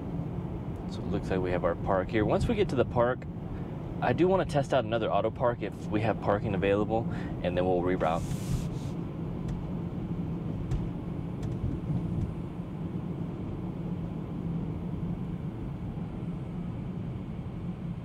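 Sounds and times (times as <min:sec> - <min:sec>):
tyre and road noise rumble: 0:00.0 - 0:16.1.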